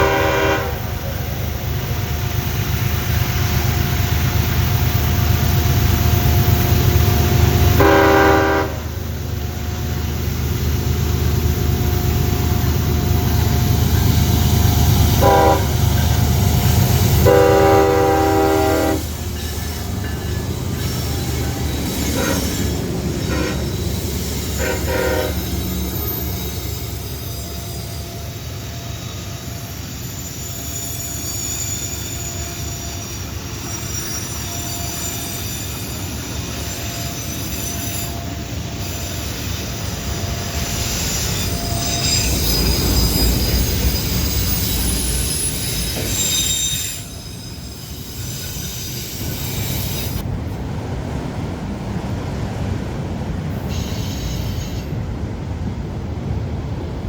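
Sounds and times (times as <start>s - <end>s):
train wheels squealing: 0.0s - 50.3s, 53.4s - 56.9s
train rumbling on rails: 0.0s - 57.0s.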